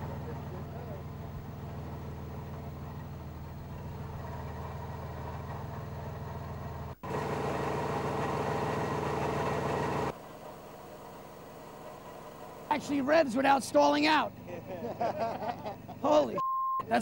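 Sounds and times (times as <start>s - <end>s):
worn car engine idling: 0.0s - 17.0s.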